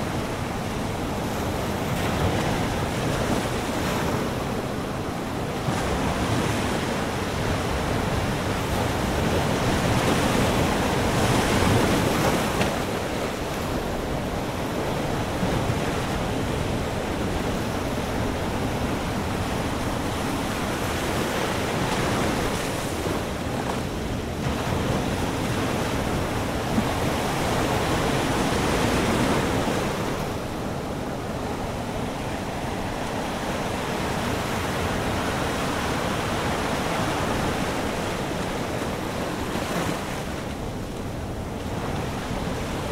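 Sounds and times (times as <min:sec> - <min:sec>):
ocean surf breaking: 0:00.0 - 0:42.9.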